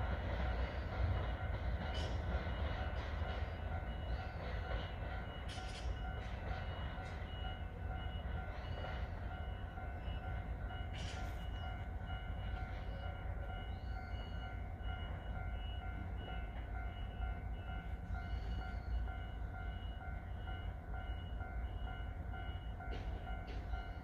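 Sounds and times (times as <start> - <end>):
distant electronic warning tone: 0.5 - 24.0.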